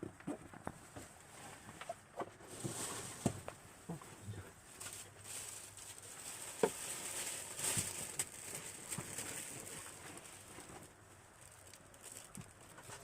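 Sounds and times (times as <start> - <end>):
rustling: 0.8 - 13.0.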